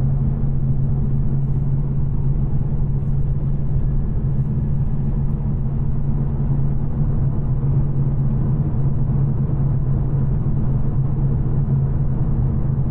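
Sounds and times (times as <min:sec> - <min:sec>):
car engine droning steadily: 0:00.0 - 0:12.9.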